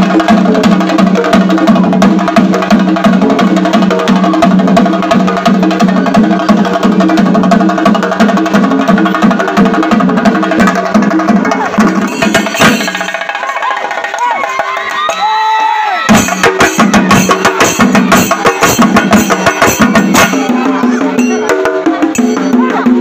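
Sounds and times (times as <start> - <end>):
drums and cymbals playing: 0.0 - 23.0.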